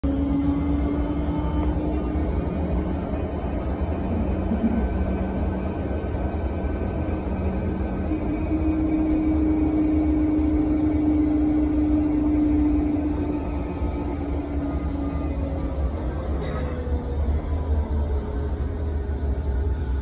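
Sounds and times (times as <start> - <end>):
bus cabin rumble: 0.0 - 20.0.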